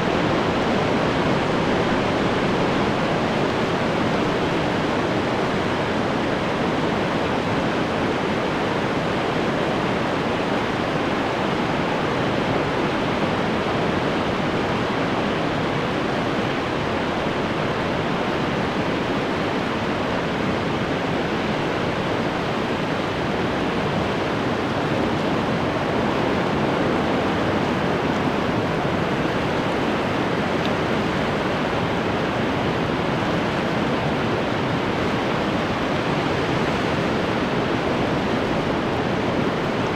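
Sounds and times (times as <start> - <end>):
ocean surf washing on shore: 0.0 - 39.9.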